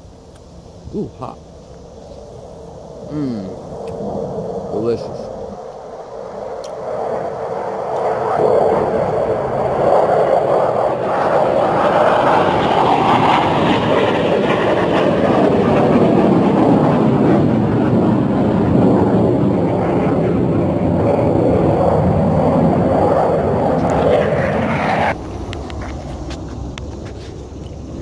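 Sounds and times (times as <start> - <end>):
airplane flying low overhead: 0.0 - 28.0.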